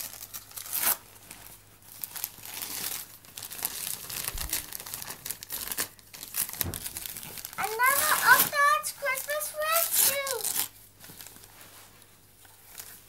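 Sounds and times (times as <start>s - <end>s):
wrapping paper crinkling and tearing: 0.0s - 13.0s.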